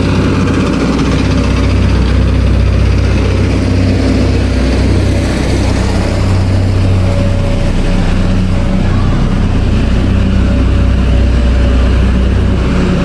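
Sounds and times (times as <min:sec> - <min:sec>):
construction machinery engines droning: 0:00.0 - 0:13.0.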